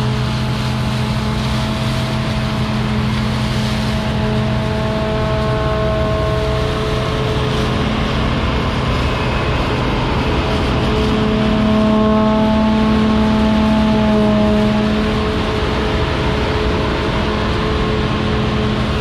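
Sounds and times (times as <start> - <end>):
combine harvester droning: 0.0 - 19.0.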